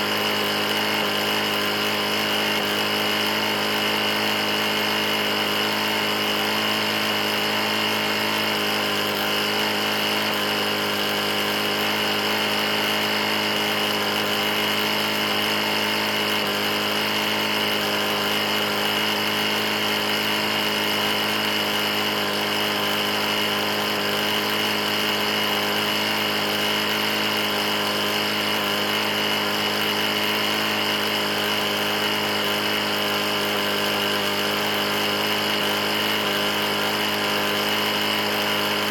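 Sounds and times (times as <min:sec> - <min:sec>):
lawn mower engine knocking: 0:00.0 - 0:38.9.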